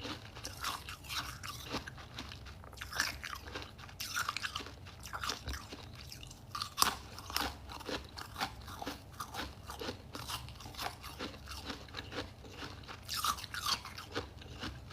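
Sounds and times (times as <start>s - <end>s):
person crunching ice: 0.0s - 14.8s.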